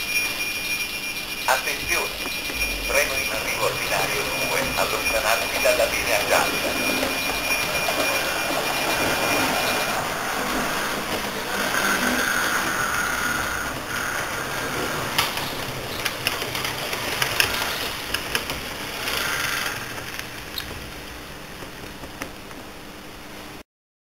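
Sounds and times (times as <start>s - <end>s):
wheels clicking on track: 0.0s - 22.8s
model train motor hum: 0.2s - 21.3s.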